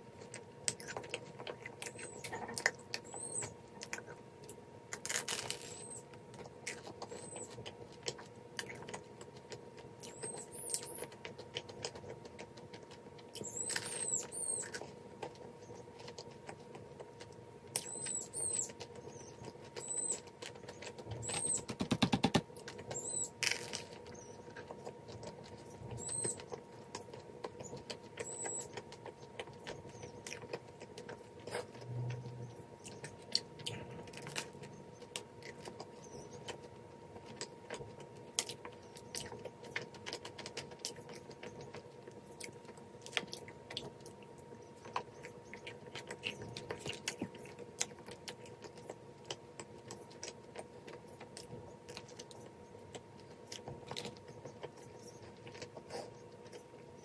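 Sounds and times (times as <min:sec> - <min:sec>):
biting and chewing pastry: 0:00.0 - 0:57.0
faint steady hum: 0:00.0 - 0:57.0.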